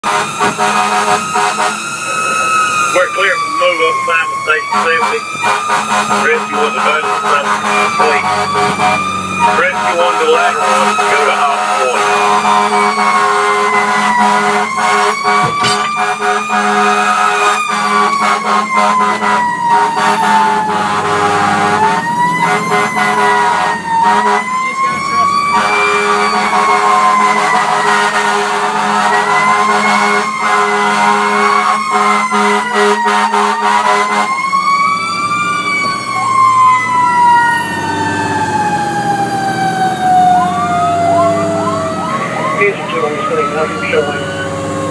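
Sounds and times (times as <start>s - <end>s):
fire truck siren wailing: 0.0s - 44.9s.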